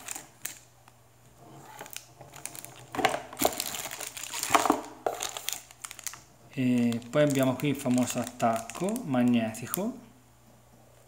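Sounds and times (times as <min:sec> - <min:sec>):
plastic bags crinkling: 0:00.0 - 0:00.7, 0:01.6 - 0:09.9.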